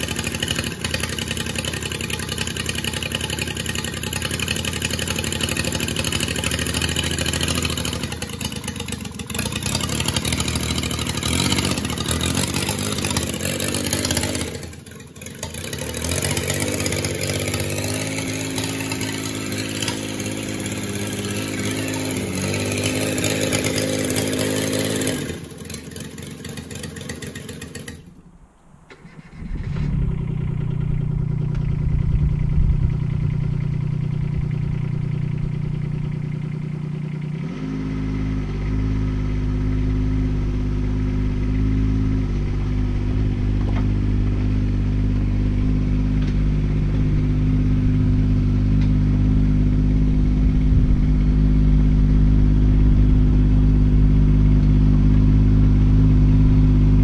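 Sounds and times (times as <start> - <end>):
mini digger diesel engine: 0.0 - 57.0.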